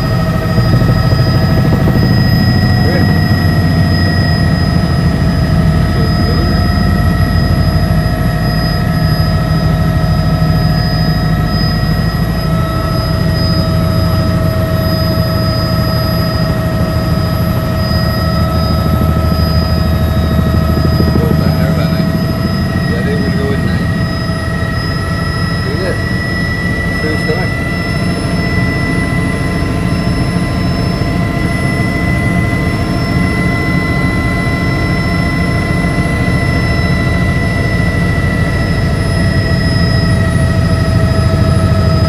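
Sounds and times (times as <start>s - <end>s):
helicopter drone: 0.0s - 42.0s
high-pitched whines: 0.0s - 42.0s.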